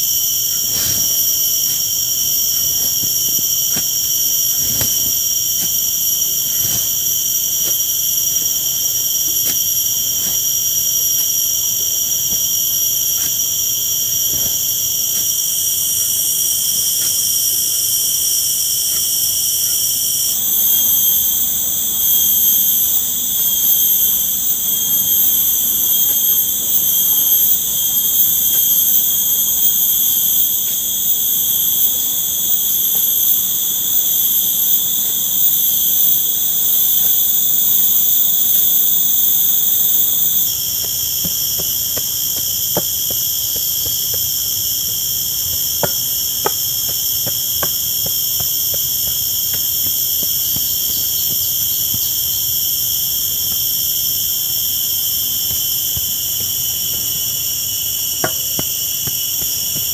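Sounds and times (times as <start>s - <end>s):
crickets and insects trilling: 0.0s - 59.9s.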